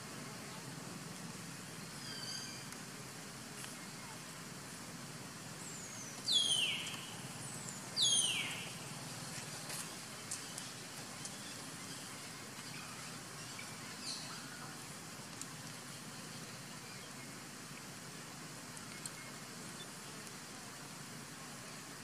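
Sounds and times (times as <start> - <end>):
low background hiss: 0.0 - 22.0.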